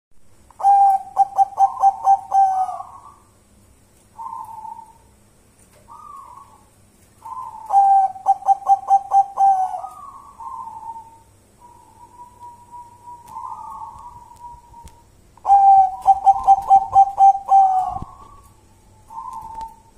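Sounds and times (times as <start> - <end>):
dove cooing: 0.6 - 3.3, 4.2 - 5.1, 5.8 - 19.9.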